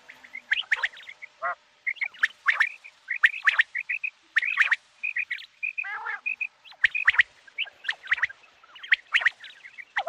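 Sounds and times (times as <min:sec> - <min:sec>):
quail chirping: 0:00.0 - 0:10.0.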